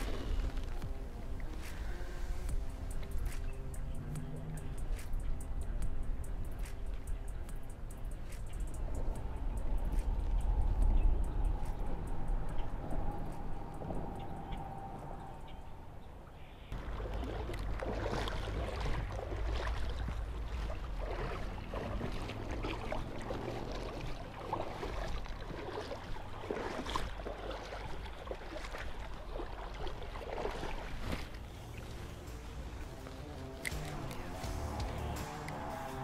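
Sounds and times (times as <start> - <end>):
low wind rumble on microphone: 0.0 - 36.0
river water lapping and gurgling: 0.0 - 36.0.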